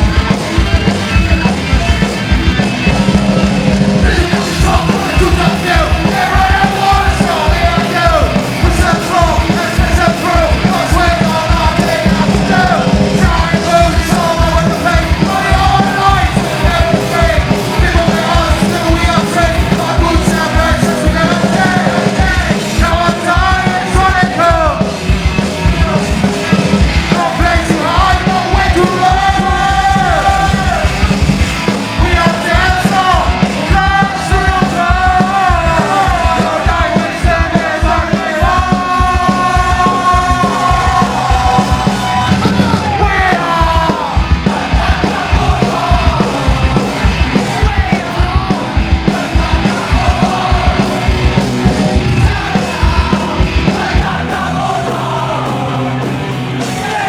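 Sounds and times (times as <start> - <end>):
punk rock band playing: 0.0 - 57.0
rapid drumbeat: 0.0 - 57.0
shouted vocals: 0.0 - 57.0.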